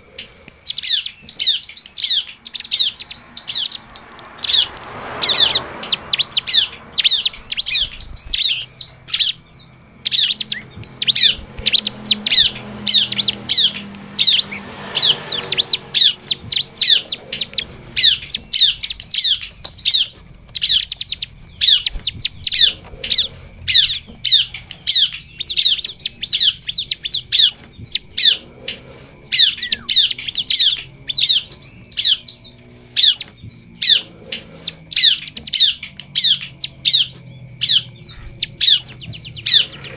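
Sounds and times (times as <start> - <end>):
bird singing sharp chirps: 0.6 - 39.9.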